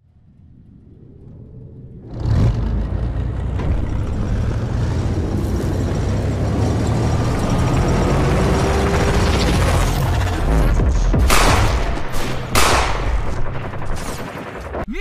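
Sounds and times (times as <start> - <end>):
heavy machinery rumbling: 1.8 - 14.7.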